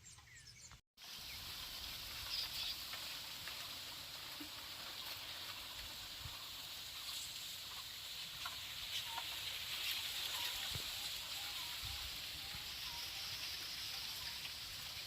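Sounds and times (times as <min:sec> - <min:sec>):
faint steady hiss: 0:01.0 - 0:15.0.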